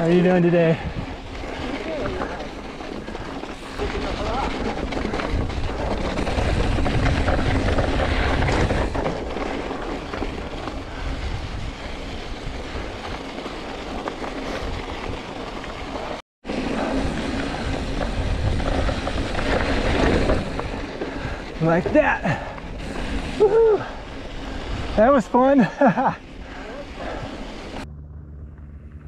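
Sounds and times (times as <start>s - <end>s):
wind buffeting microphone: 0.0s - 13.2s, 16.8s - 27.8s
bike tyres rumbling on gravel: 0.0s - 29.0s.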